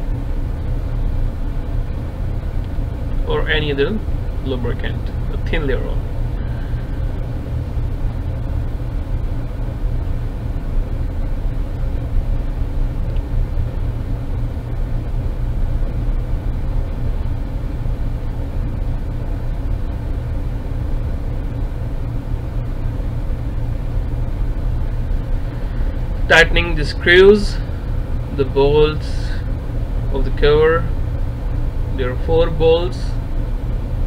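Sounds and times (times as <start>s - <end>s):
constant hum: 0.0s - 34.0s
low rumble of running machinery: 0.0s - 34.0s.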